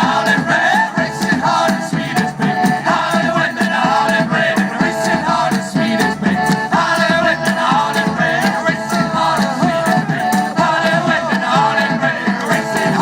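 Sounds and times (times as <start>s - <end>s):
folk band playing live: 0.0s - 13.0s.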